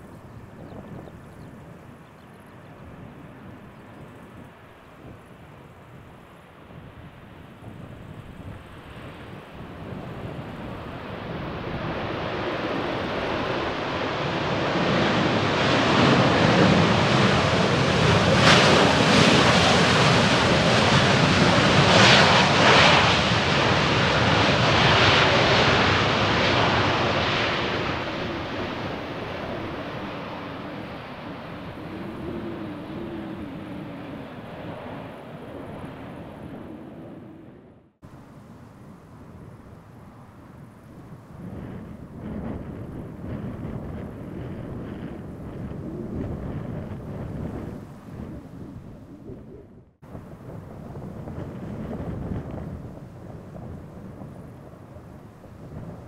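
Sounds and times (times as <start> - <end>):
jet airliner flying past: 0.0 - 56.0.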